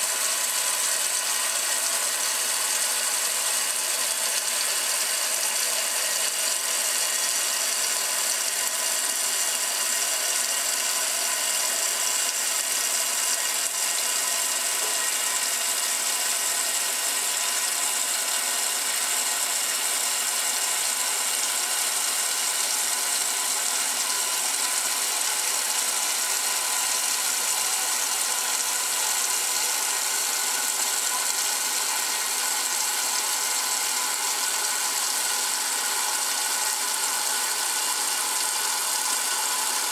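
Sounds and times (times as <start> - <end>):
washing machine agitating: 0.0 - 39.9.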